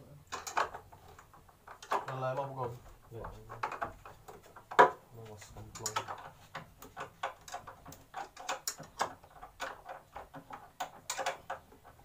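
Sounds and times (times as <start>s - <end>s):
hand tools clicking and knocking: 0.3s - 12.0s.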